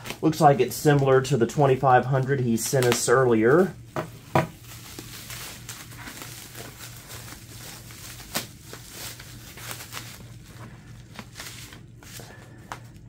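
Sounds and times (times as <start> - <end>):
bubble wrap rustling: 0.0 - 13.0.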